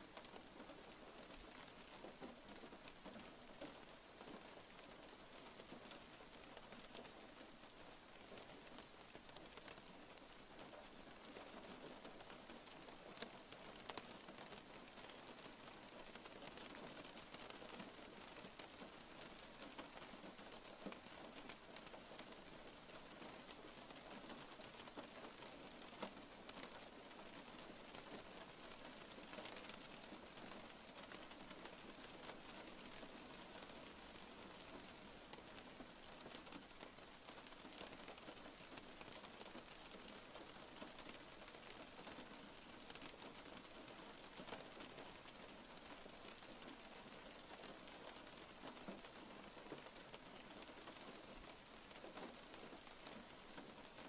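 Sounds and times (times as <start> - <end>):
faint steady rain: 0.0 - 54.0
rain drop ticks: 0.0 - 54.0.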